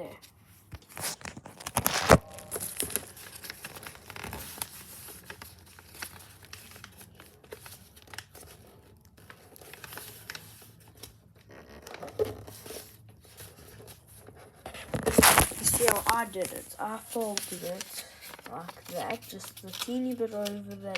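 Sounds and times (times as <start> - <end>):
paper rustling and crinkling: 0.6 - 20.9.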